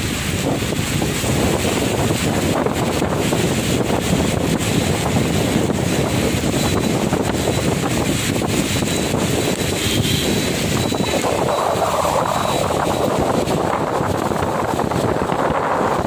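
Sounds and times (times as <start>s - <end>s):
car driving through heavy rain: 0.0s - 16.0s
wind buffeting microphone: 0.0s - 16.0s.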